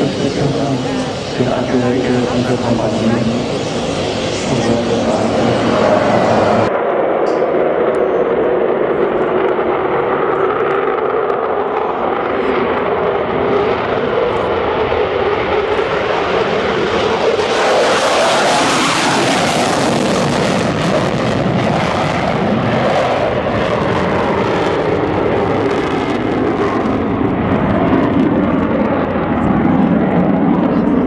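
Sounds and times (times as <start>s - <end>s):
jet afterburner roar: 0.0s - 31.0s.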